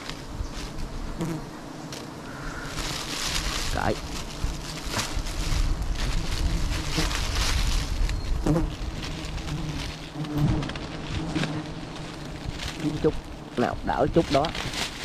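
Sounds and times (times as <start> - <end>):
branches rustling and knocking: 0.0 - 1.0, 1.8 - 15.0
bees buzzing: 0.0 - 15.0.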